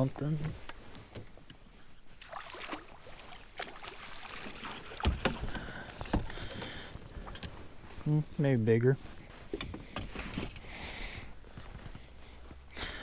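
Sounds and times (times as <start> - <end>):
fishing gear rustling: 0.0 - 12.8.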